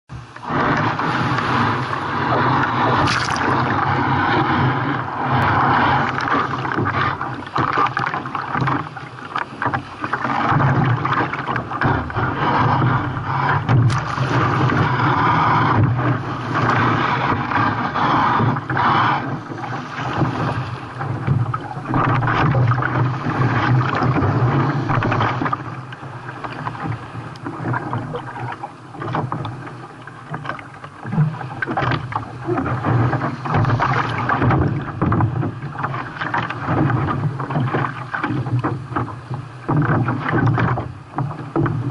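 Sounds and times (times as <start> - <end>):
water splashing against kayak: 0.1 - 41.9.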